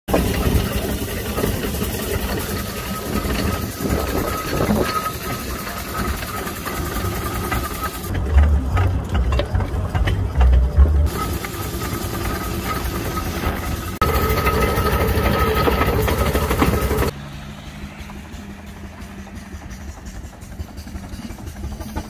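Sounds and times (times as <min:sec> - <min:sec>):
steam traction engine running: 0:00.1 - 0:22.0.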